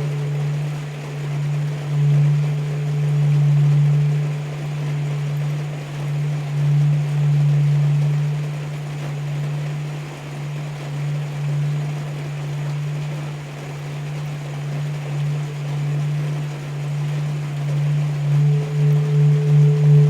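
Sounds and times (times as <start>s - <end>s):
heavy rain hiss: 0.0s - 20.0s
singing bowl low tone: 0.0s - 20.0s.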